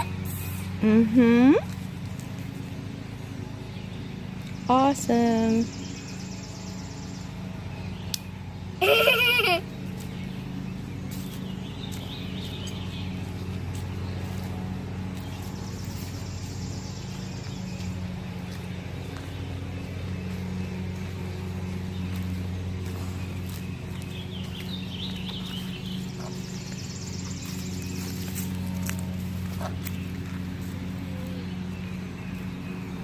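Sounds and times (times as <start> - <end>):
birds chirping: 0.0 - 33.0
low mechanical hum: 0.0 - 33.0.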